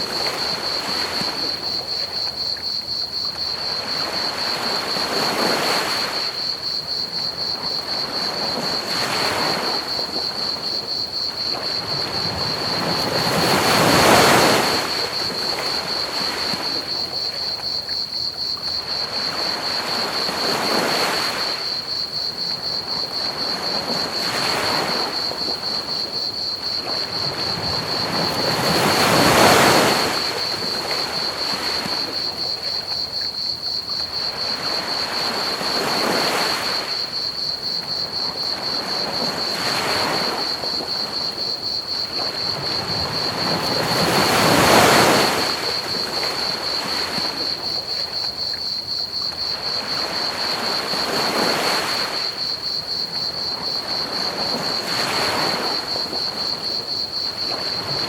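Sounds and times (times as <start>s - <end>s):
ocean waves breaking on beach: 0.0s - 2.8s, 3.4s - 17.3s, 18.7s - 33.0s, 33.6s - 58.0s
cricket trill: 0.0s - 58.0s.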